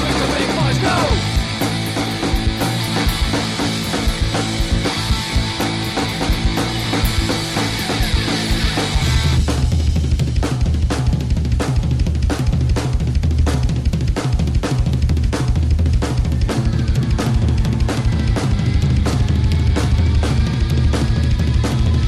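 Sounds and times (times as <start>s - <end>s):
bass line: 0.0s - 22.0s
drum kit beat: 0.0s - 22.0s.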